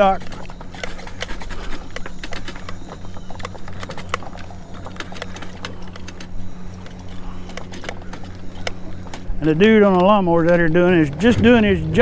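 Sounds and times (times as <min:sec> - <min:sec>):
lawnmower engine humming: 0:00.0 - 0:12.0.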